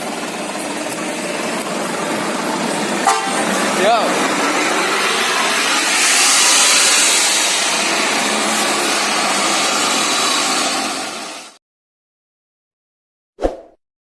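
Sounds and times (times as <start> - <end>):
motorcycle exhaust rushing hiss: 0.0 - 11.6.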